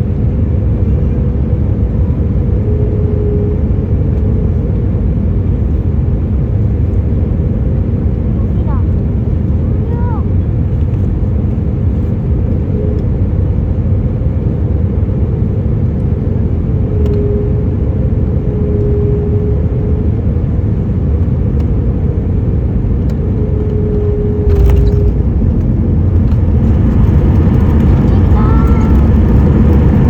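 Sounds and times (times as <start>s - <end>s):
faint whine: 0.0s - 30.0s
jet engines low rumble: 0.0s - 30.0s.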